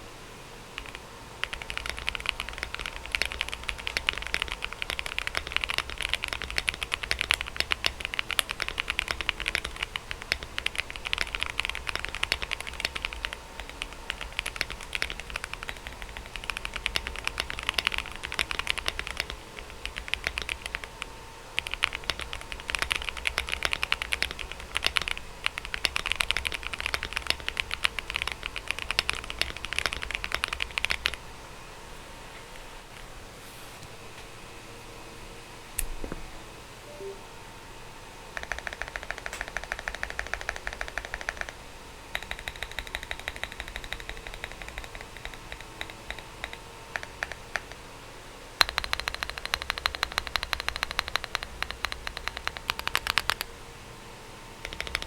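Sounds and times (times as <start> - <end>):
mechanical keyboard typing: 0.8 - 31.2, 38.4 - 47.9, 48.6 - 53.5, 54.6 - 55.0.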